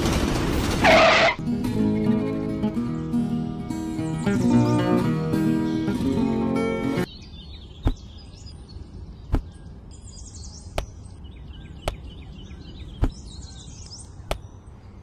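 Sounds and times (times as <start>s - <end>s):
birdsong: 0.9s - 15.0s.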